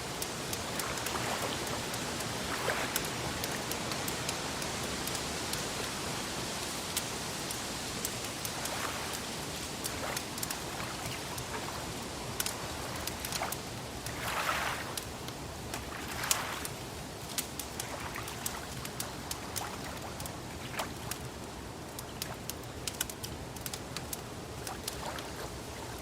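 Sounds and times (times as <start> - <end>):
gently lapping water: 0.0 - 26.0
soft water swashes: 0.0 - 26.0
wood fire crackling: 0.0 - 26.0.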